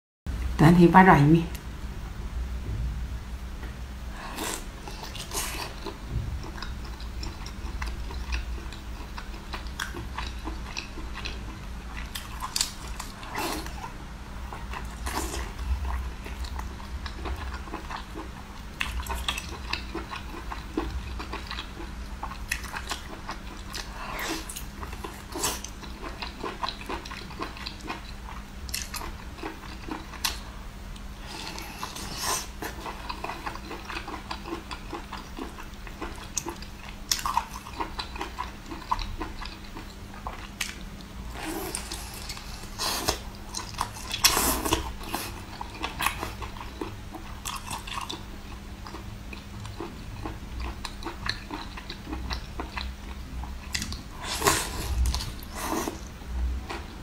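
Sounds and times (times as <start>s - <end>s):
faint steady hum: 0.3s - 57.0s
person chewing octopus: 4.2s - 57.0s.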